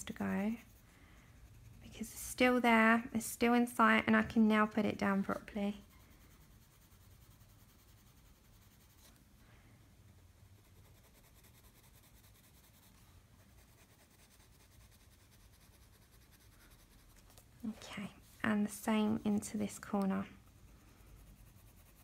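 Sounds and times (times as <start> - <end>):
pencil scratching on paper: 0.0 - 9.2, 10.4 - 17.4, 18.2 - 22.0.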